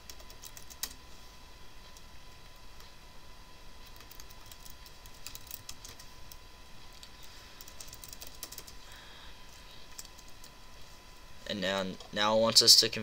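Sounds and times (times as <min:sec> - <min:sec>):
faint high computer whine: 0:00.0 - 0:13.0.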